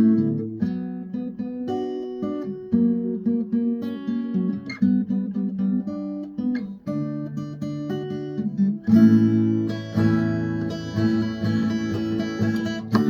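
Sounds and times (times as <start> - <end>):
guitar picking and strumming: 0.0 - 13.0.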